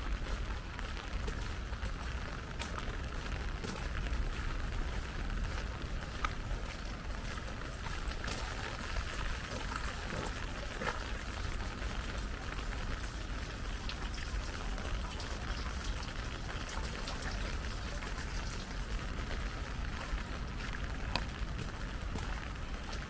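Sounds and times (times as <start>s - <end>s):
light rain hissing: 0.0s - 23.0s.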